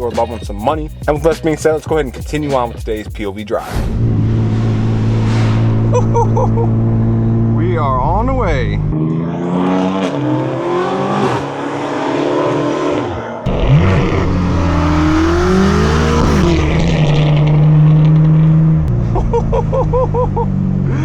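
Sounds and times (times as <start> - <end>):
car exhaust accelerating: 3.7 - 21.0.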